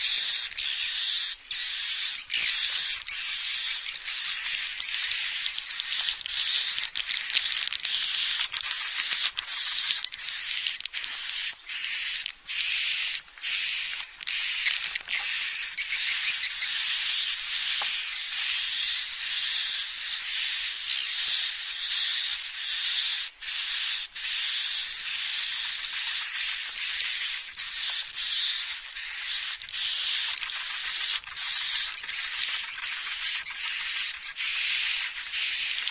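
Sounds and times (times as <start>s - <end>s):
swiftlets twittering: 0.0s - 35.9s.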